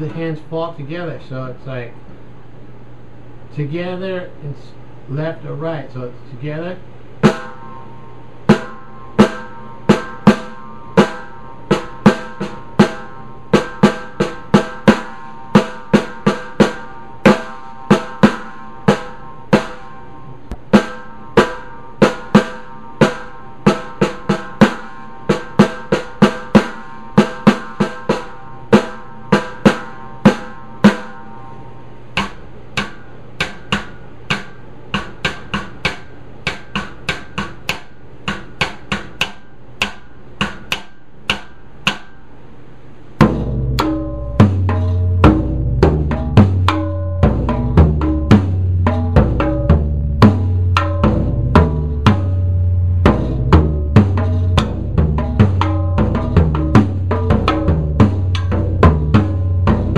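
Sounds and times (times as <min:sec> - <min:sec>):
drums struck with sticks: 0:07.1 - 0:42.4, 0:43.1 - 0:59.9.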